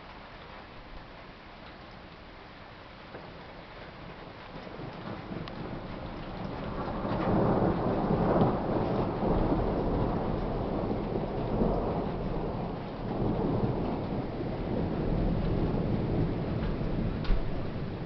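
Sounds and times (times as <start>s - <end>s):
steady rain: 0.0s - 18.0s
thunder rumbling: 3.2s - 18.0s.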